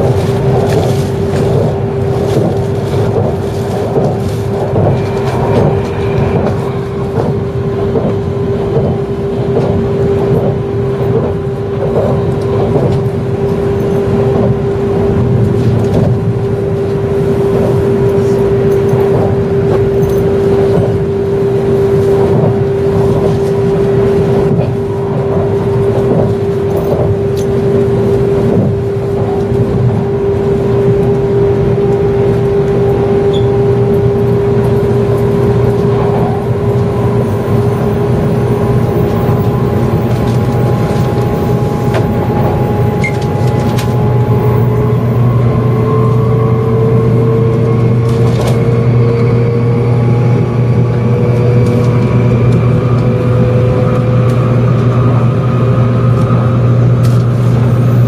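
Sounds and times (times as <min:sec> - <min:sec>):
train rumble and hum: 0:00.0 - 0:58.0.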